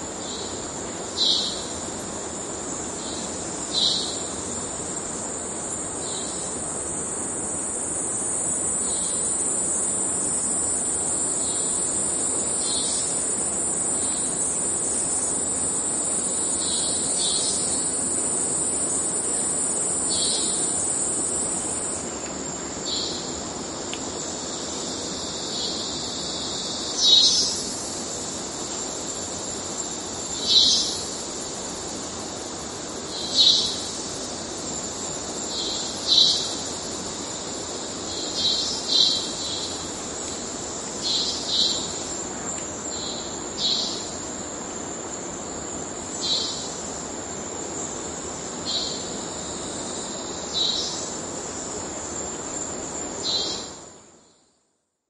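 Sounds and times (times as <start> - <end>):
cicada high-pitched drone: 0.0 - 54.4
cicada short pulsed calls: 0.0 - 54.7.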